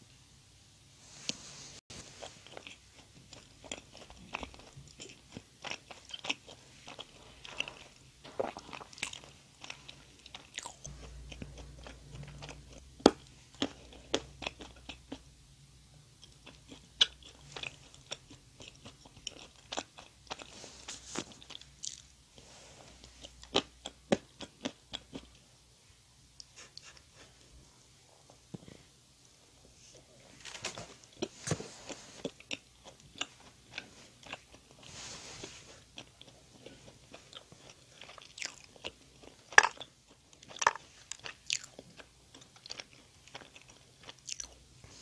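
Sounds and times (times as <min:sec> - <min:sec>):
chewing food: 0:01.9 - 0:15.3, 0:16.2 - 0:25.5, 0:30.8 - 0:45.0.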